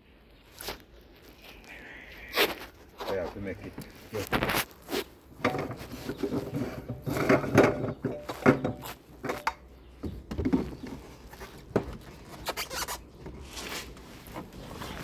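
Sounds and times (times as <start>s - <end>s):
rubbing and scraping: 2.4s - 15.0s.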